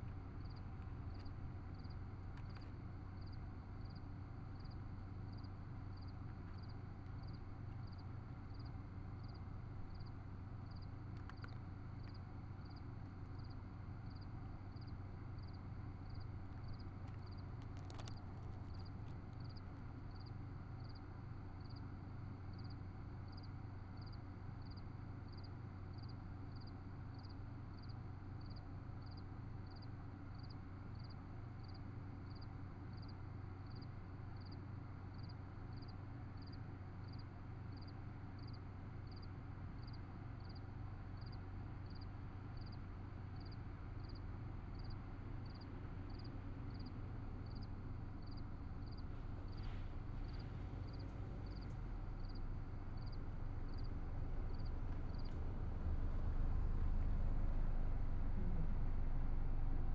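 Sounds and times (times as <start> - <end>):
electrical hum and hiss: 0.0 - 59.9.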